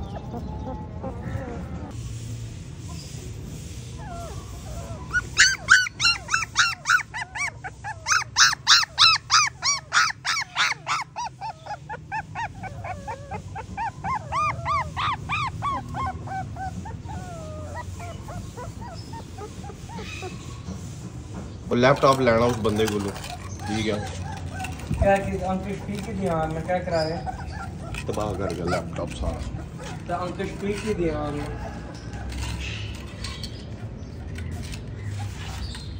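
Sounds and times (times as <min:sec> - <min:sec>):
puppy yelping and whining: 0:00.0 - 0:02.0, 0:02.9 - 0:35.9.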